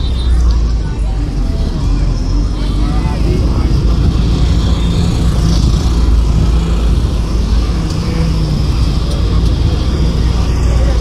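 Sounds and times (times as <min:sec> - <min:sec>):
bus rumbling: 0:00.0 - 0:11.0
street traffic: 0:00.0 - 0:11.0.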